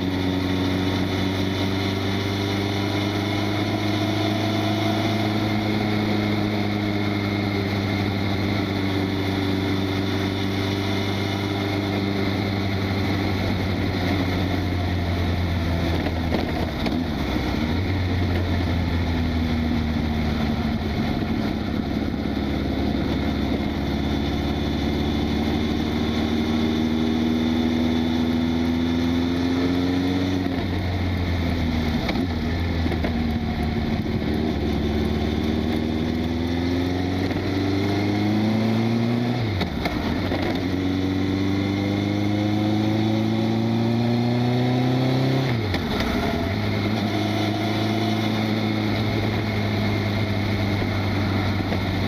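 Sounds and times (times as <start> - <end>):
motorcycle engine revving: 0.0 - 52.0
wind and road noise: 0.0 - 52.0.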